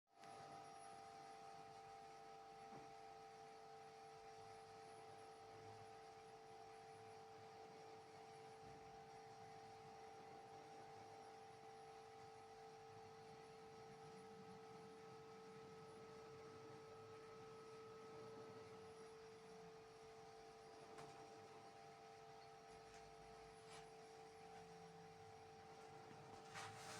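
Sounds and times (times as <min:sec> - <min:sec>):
faint droning hum: 0:00.2 - 0:26.9.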